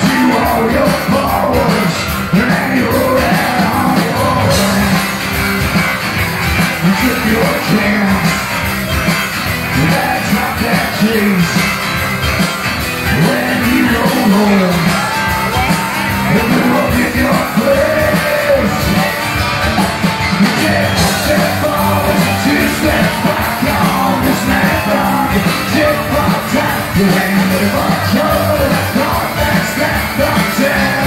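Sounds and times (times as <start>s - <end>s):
man singing into microphone: 0.0s - 5.0s, 6.8s - 8.3s, 9.8s - 11.6s, 13.1s - 19.4s, 20.5s - 31.0s
live rock band playing: 0.0s - 31.0s.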